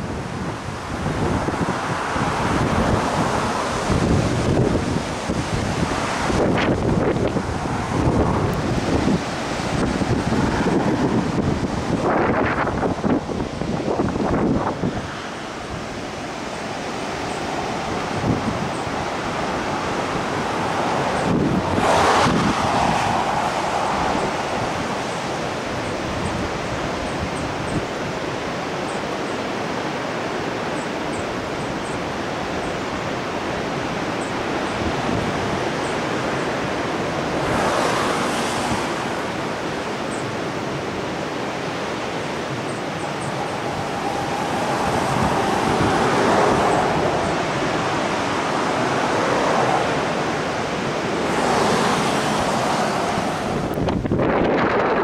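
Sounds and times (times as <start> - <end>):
ocean surf breaking: 0.0 - 55.0
wind on microphone: 0.0 - 55.0.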